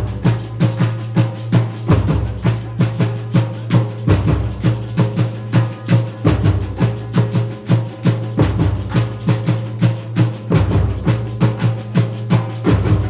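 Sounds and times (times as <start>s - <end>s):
drums playing a driving beat: 0.0s - 13.0s.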